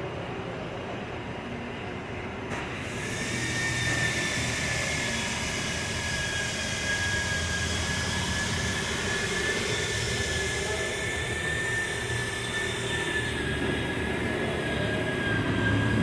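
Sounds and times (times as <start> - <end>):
machine drone: 0.0 - 16.0.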